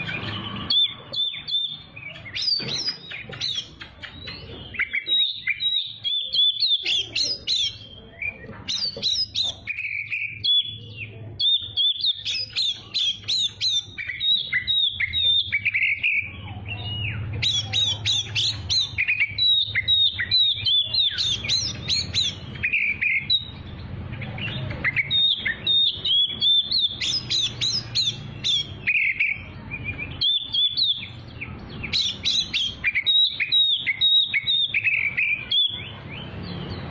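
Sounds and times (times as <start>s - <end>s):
bird singing varied chirps and trills: 0.0s - 36.9s.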